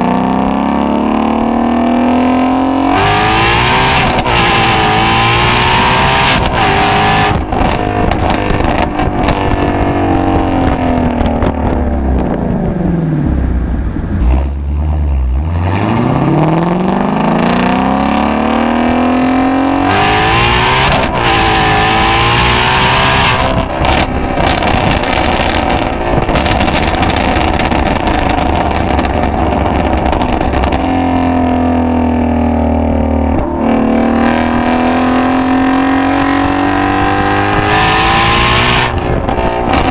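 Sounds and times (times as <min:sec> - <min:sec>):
car engine and exhaust revving: 0:00.0 - 0:39.9.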